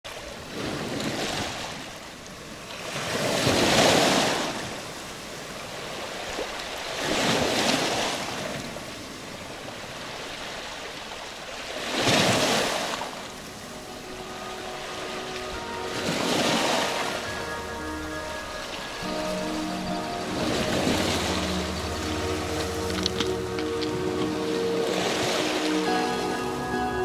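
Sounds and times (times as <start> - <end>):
waves washing on pebble beach: 0.3 - 26.8.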